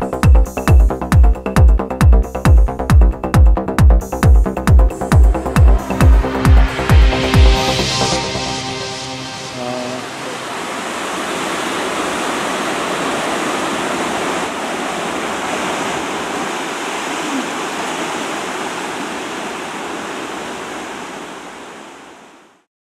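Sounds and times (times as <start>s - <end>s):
water rushing in ship wake: 4.2s - 22.7s.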